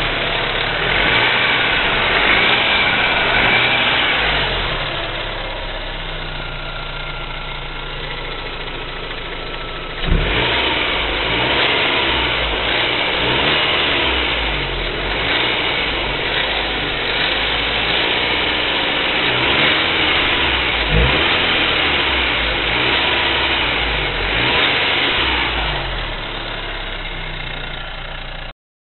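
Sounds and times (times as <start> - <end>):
car engine idling and revving: 0.0 - 28.5.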